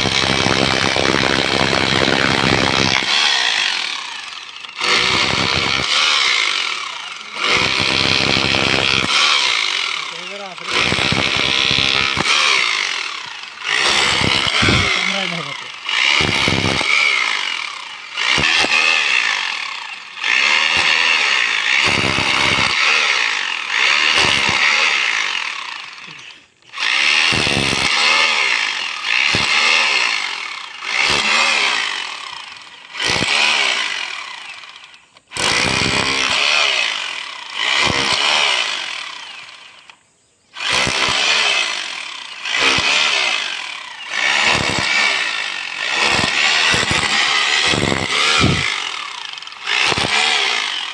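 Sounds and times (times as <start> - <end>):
rotary hammer bursts: 0.0 - 40.0, 40.6 - 50.9.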